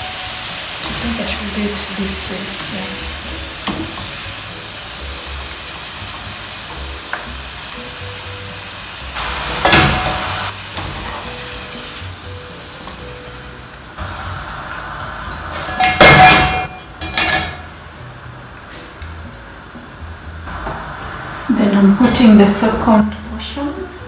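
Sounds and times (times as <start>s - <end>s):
chips sizzling in hot oil: 0.0s - 23.8s
background music: 0.0s - 24.0s.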